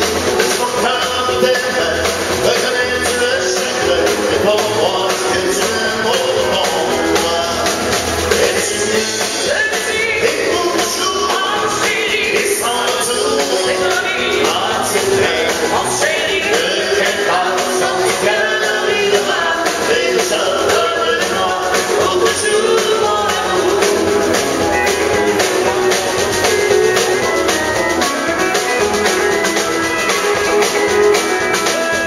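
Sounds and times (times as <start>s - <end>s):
drums: 0.0s - 32.0s
keyboard: 0.0s - 32.0s
man singing: 0.0s - 32.0s
woman singing lead: 0.0s - 32.0s.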